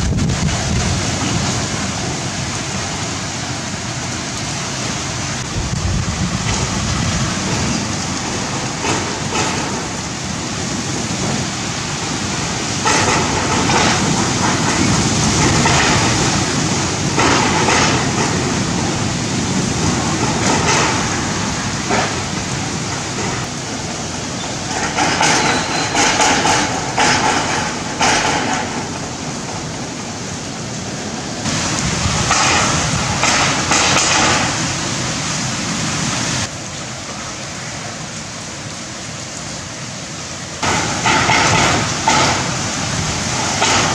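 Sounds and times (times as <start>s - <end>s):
heavy rain: 0.0s - 43.9s
wind roaring through trees: 0.0s - 43.9s.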